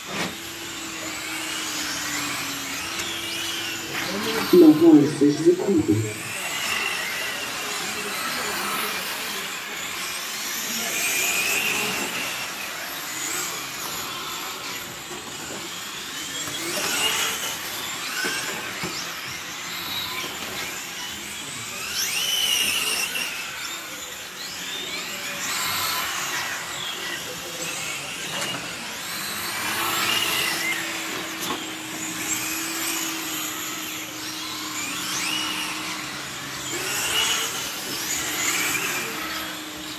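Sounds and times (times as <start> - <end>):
radio-controlled car motors whining: 0.0 - 39.9.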